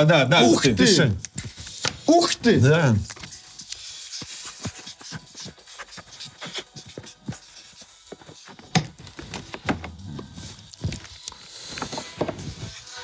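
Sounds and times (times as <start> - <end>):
pens scratching on cards: 0.4 - 13.0.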